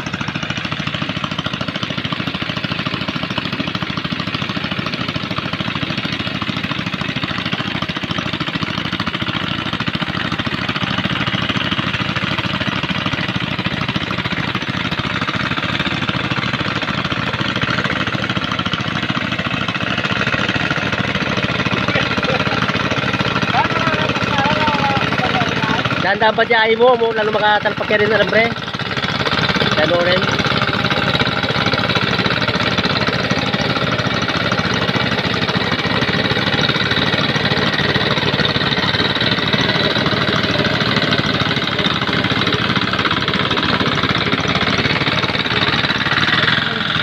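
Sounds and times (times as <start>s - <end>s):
tractor engine knocking chatter: 0.0s - 47.0s.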